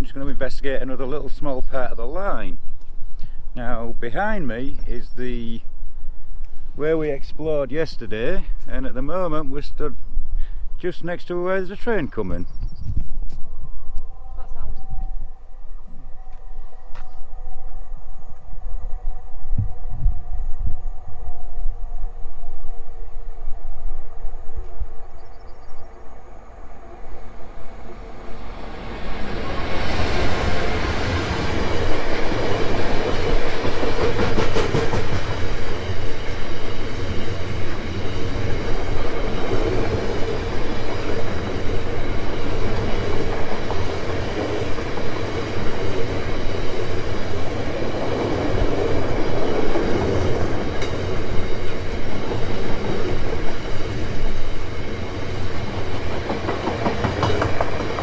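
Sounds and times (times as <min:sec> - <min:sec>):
diesel locomotive passing: 0:00.0 - 0:12.6, 0:13.2 - 0:58.0.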